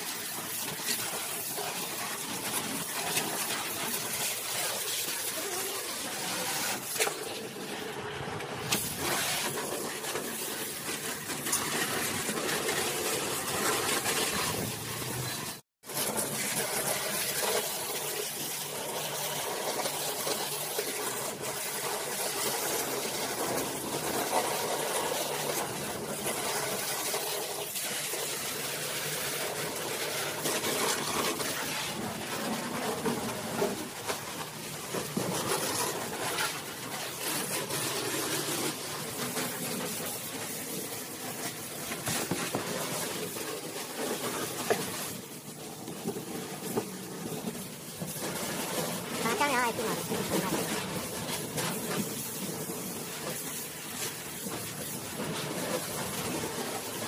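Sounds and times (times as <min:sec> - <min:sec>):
pressure washer spraying car: 0:00.0 - 0:57.0.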